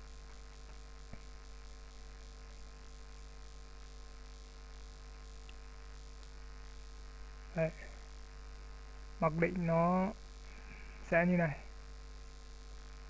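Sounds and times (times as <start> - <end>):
electrical mains hum: 0.0 - 13.0
faint hiss: 0.0 - 13.0.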